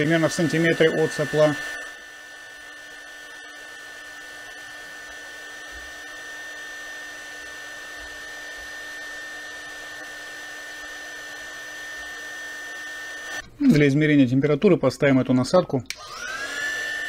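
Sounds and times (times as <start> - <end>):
heat gun fan air rush: 0.0 - 13.4, 15.9 - 17.0.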